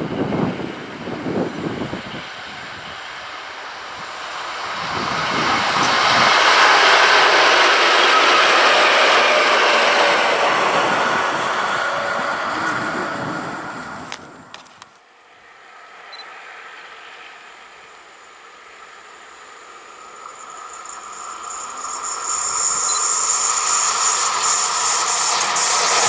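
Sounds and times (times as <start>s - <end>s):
train wheels rolling on rail: 0.0s - 26.0s.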